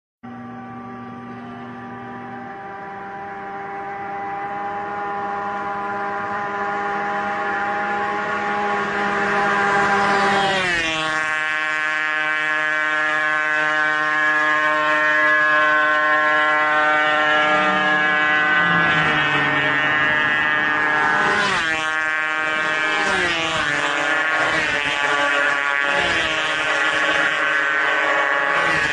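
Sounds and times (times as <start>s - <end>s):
high-pitched motorcycle engine buzz: 0.2s - 28.9s.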